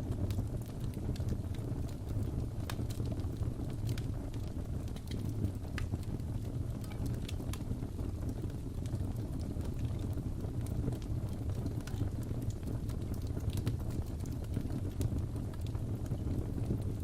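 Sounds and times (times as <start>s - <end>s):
fire crackles and pops: 0.0s - 17.0s
fire low rumble: 0.0s - 17.0s.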